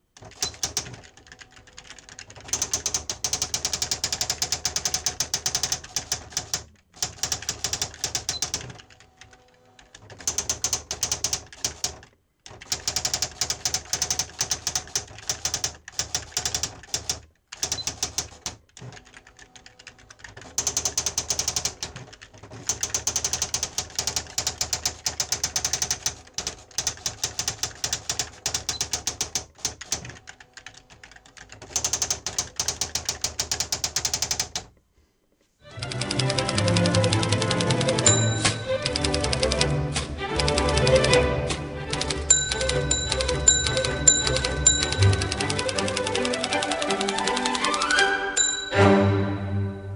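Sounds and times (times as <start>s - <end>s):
electronic typewriter typing: 0.1s - 34.8s, 35.8s - 41.3s, 41.9s - 48.6s.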